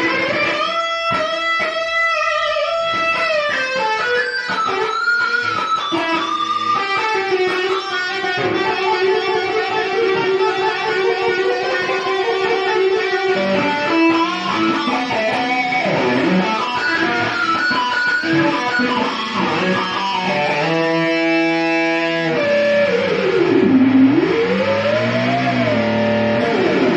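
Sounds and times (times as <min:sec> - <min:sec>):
electric guitar lead line: 0:00.0 - 0:26.9.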